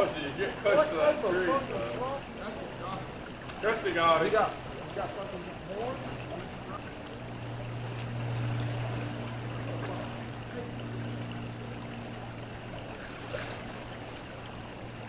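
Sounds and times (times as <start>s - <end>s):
creek water running: 0.0s - 15.0s
steady low hum: 0.0s - 15.0s.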